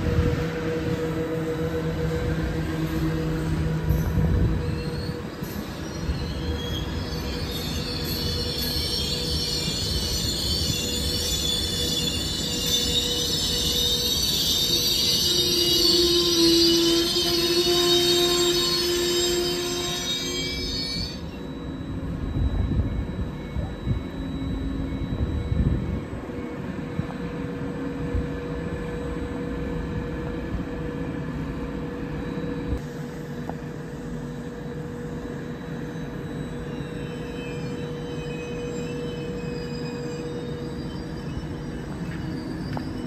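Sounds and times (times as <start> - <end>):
train mechanical hum: 0.0 - 43.0.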